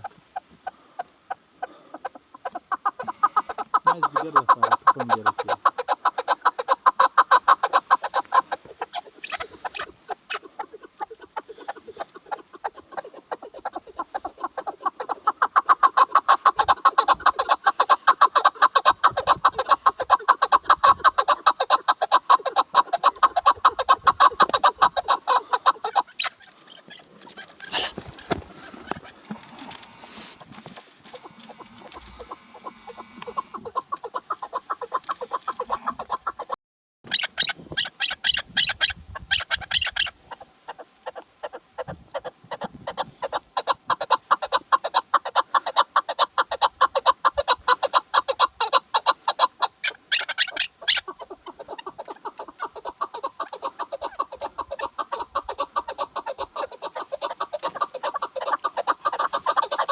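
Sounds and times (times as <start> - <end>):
partridge calling: 0.0 - 59.9.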